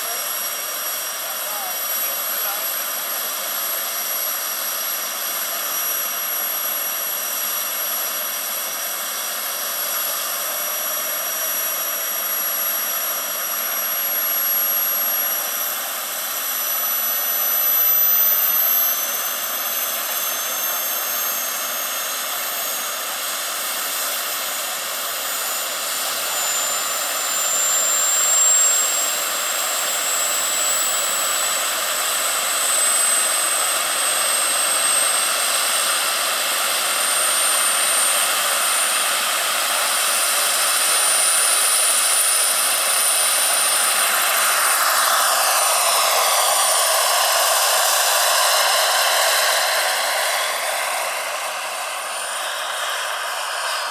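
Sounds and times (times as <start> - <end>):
model helicopter turbine whine: 0.0 - 53.9.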